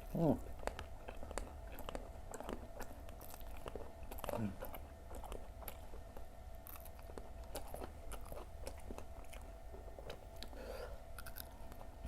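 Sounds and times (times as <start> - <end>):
chewing crunchy fried food: 0.0 - 12.0.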